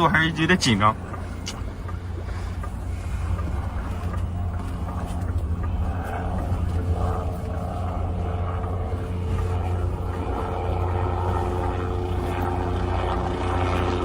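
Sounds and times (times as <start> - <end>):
faint hum: 0.0 - 14.0
low vehicle rumble: 0.0 - 14.0
water splashing: 0.0 - 14.0
wind noise: 0.0 - 14.0.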